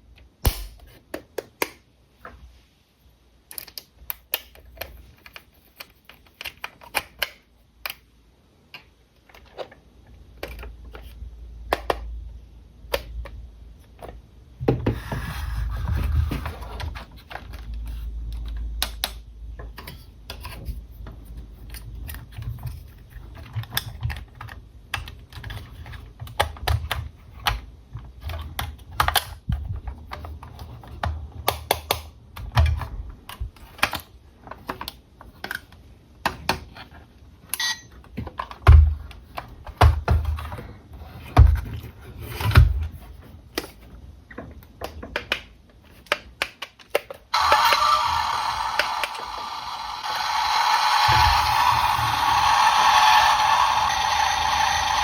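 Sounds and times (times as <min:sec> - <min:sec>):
plastic parts clicking and tapping: 0:03.5 - 0:08.1, 0:08.7 - 0:12.2, 0:12.8 - 0:15.2, 0:15.9 - 0:55.0.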